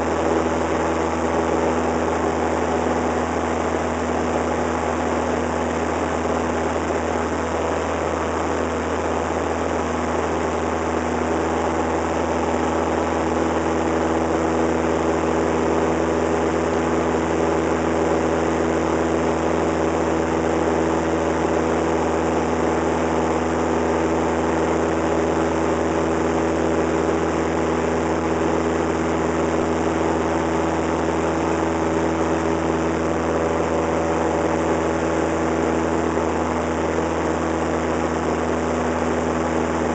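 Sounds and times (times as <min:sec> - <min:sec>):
plane engine and propeller in flight: 0:00.0 - 0:39.9.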